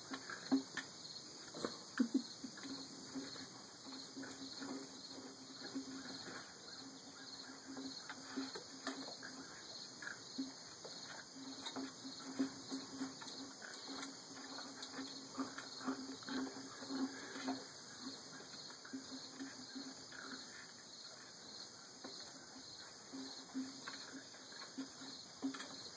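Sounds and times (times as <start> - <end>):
insects chirping: 0.0 - 25.9.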